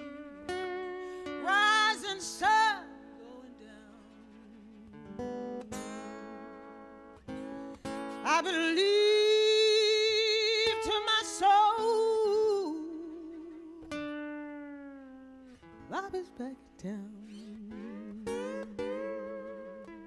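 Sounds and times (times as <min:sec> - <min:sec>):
woman singing blues notes: 0:00.0 - 0:06.1, 0:07.3 - 0:20.0
guitar: 0:00.0 - 0:20.0.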